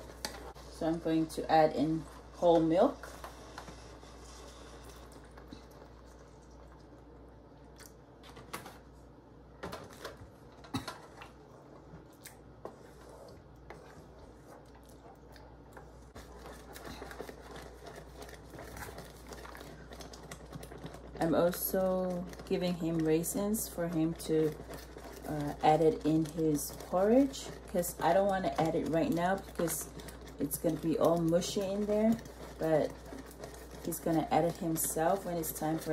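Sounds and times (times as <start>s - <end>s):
porridge being stirred: 0.0s - 35.9s.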